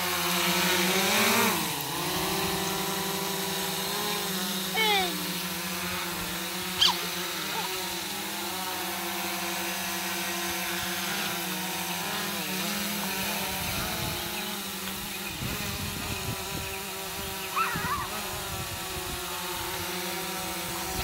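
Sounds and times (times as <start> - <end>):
drone rotors buzzing: 0.0 - 21.0.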